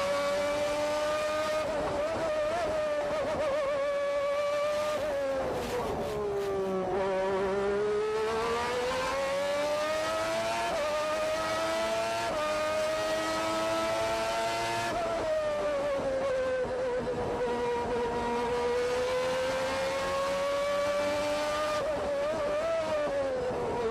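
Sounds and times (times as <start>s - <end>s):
race car engine revving: 0.0s - 23.9s.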